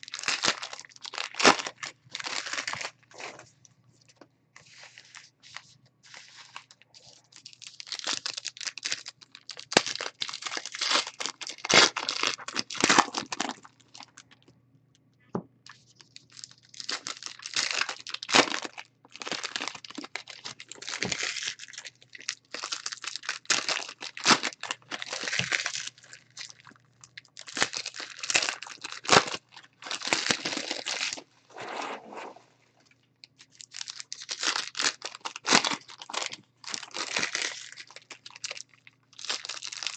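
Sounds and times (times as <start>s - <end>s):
foil wrappers tearing and crinkling: 0.0s - 3.3s, 6.1s - 14.2s, 15.9s - 31.2s, 33.4s - 39.9s.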